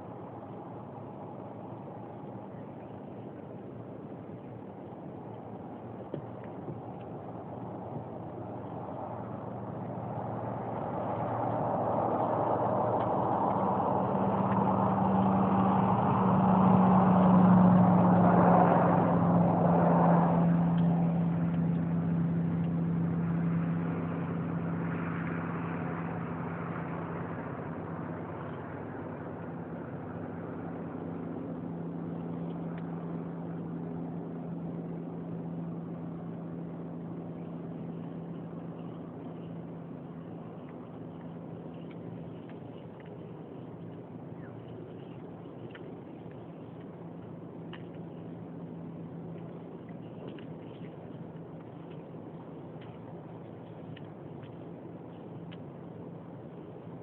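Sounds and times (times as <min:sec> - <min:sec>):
vehicle engine running: 0:05.7 - 0:57.0.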